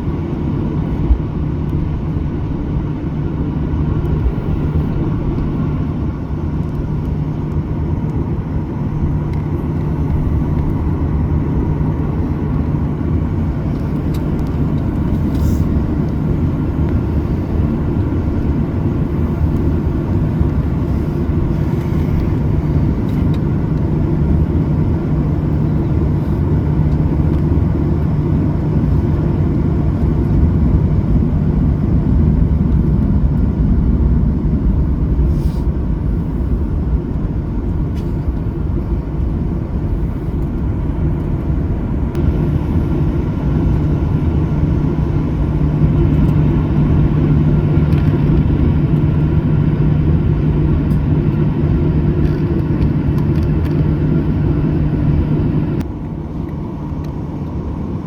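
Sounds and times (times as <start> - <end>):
airplane cabin rumble: 0.0 - 58.0.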